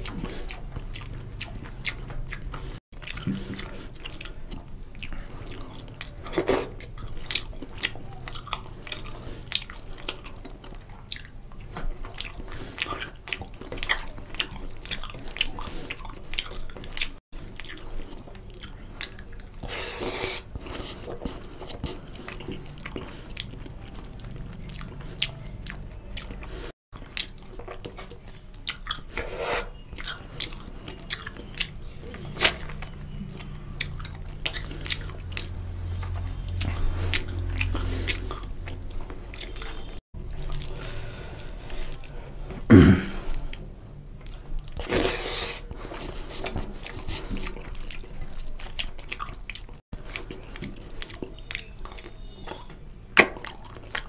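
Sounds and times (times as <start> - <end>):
man chewing and mouth smacking: 0.0 - 54.0.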